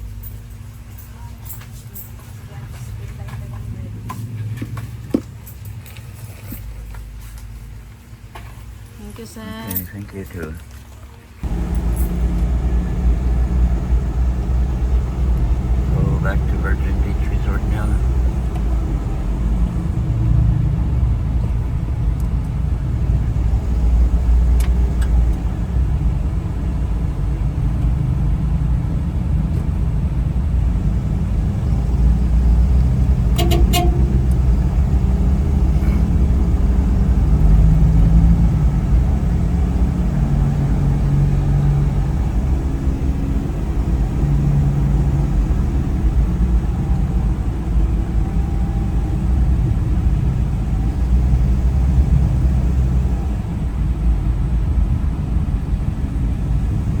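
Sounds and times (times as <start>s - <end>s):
vehicle rumbling in motion: 0.0s - 57.0s.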